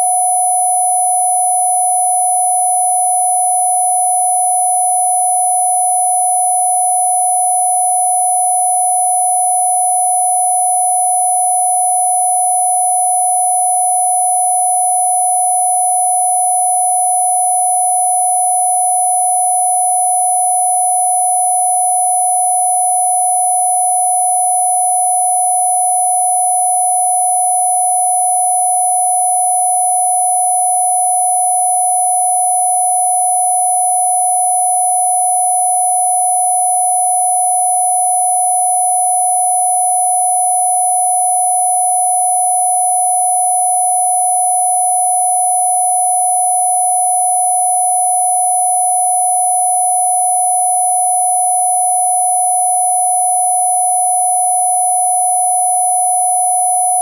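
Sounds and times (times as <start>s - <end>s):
electronic sine tone: 0.0s - 57.0s.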